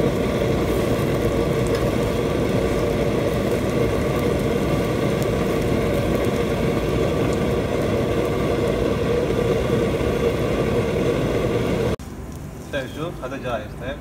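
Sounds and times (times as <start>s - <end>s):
kitchen equipment humming drone: 0.0s - 14.0s.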